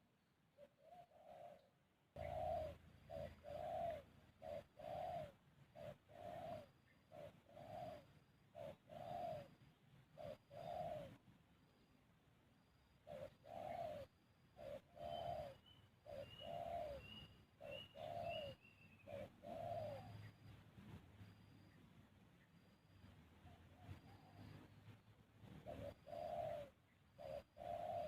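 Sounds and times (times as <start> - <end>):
dove cooing: 0.6 - 11.2, 13.0 - 21.6, 23.4 - 28.0
bird chirping: 0.6 - 12.0, 12.6 - 28.0.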